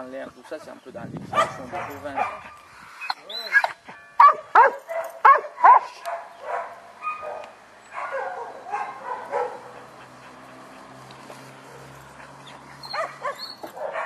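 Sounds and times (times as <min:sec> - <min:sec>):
dog barking and yipping: 0:01.3 - 0:14.0.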